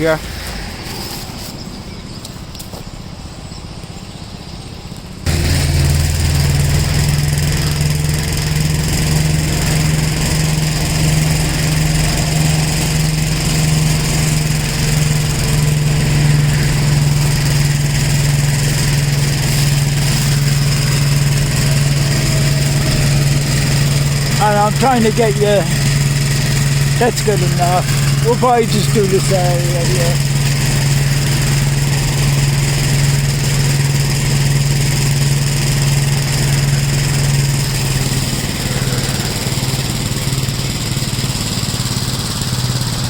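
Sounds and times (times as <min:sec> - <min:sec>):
tractor mower engine running: 0:04.8 - 0:43.0.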